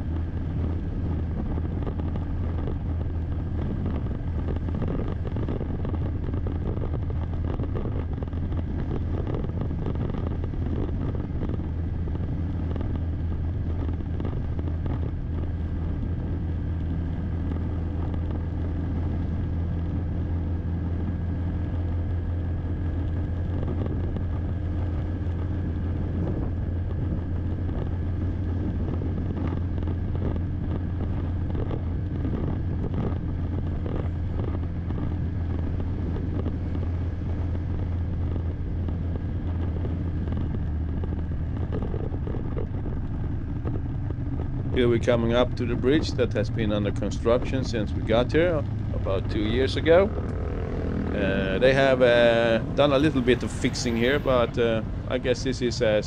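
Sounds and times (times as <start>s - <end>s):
vehicle engine and road drone: 0.0s - 56.0s.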